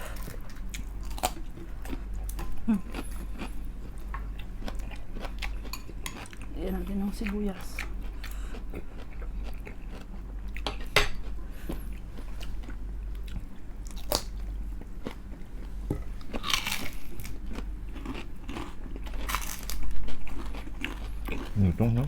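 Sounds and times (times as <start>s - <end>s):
crunchy chicken skin chewing: 0.0s - 6.5s, 7.7s - 22.0s
steady low hum: 0.0s - 22.0s.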